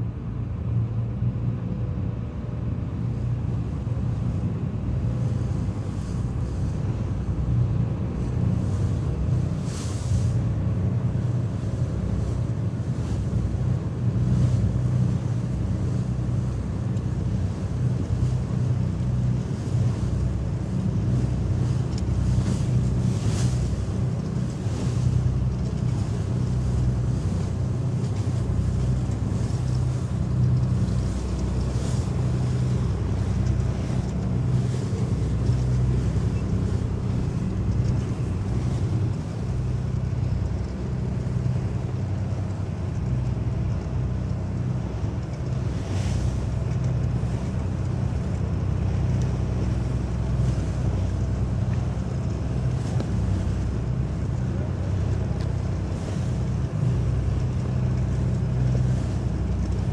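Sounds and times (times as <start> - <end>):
boat engine drone: 0.0 - 59.9
water splashing against hull: 0.0 - 59.9.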